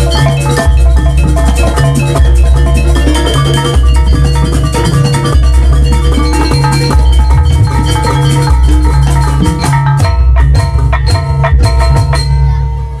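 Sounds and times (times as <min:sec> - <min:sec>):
deep bass: 0:00.0 - 0:13.0
gamelan ensemble playing: 0:00.0 - 0:13.0.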